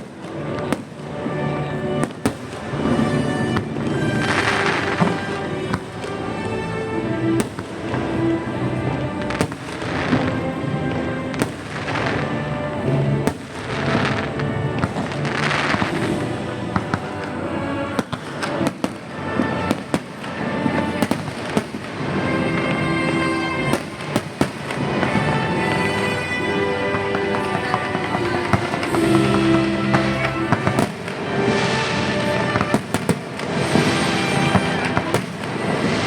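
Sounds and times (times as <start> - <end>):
fireworks crackling hiss: 0.0 - 36.0
fireworks sharp bangs: 0.0 - 36.0.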